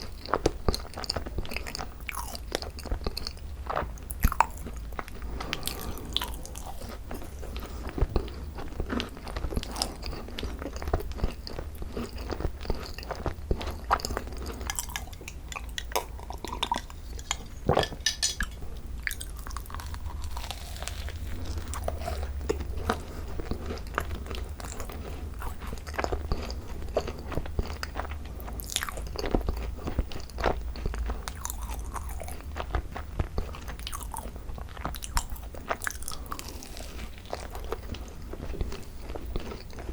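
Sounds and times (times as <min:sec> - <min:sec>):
chewing and biting macarons: 0:00.0 - 0:39.9.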